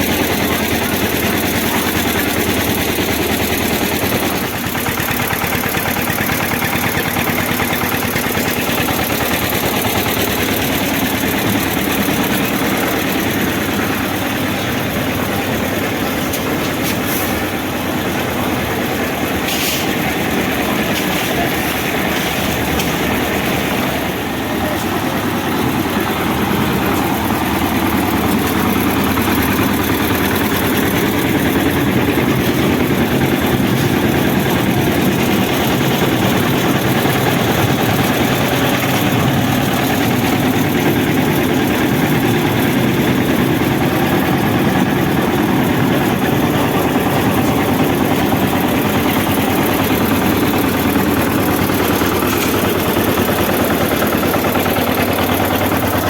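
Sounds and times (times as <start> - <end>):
concrete mixer running: 0.0 - 56.0.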